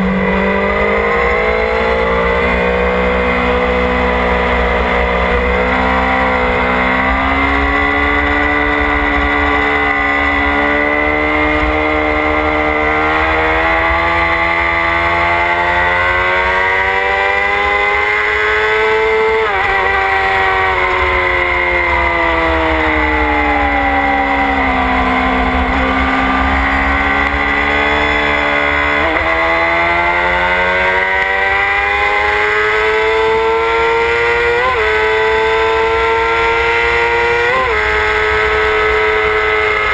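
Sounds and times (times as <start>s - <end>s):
engine blips: 0.0s - 39.9s
motorcycle engine accelerating: 0.0s - 39.9s.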